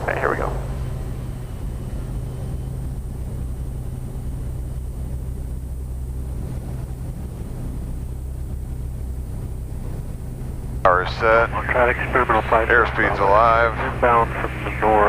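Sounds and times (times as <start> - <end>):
faint high whine: 0.0 - 15.0
turboprop engine drone: 0.0 - 15.0.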